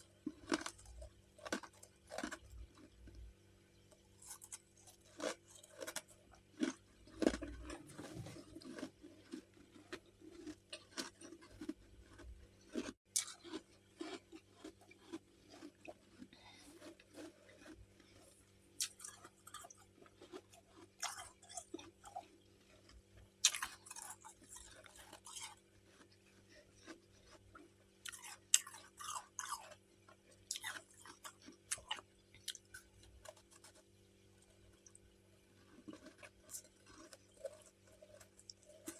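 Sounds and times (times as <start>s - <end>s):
chewing crunchy frost chunks: 0.0s - 38.9s.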